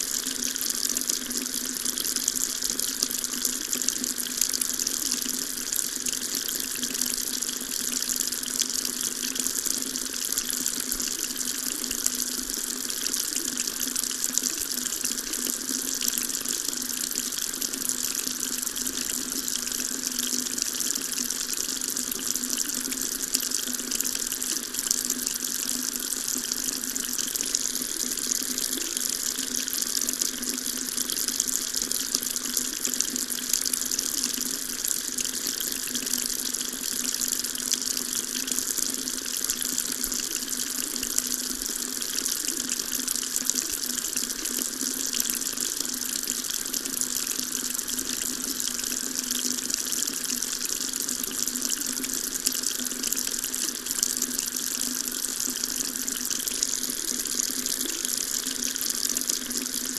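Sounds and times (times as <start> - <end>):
water tap running: 0.0 - 59.9.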